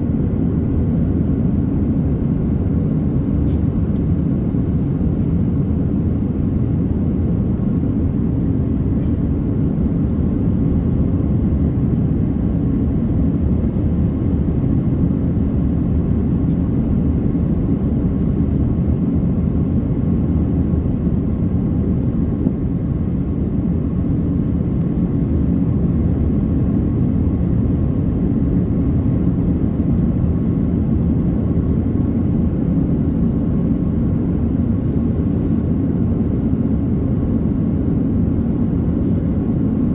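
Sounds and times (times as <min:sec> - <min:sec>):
airplane engines roaring: 0:00.0 - 0:39.9
rushing air in cabin: 0:06.3 - 0:39.9.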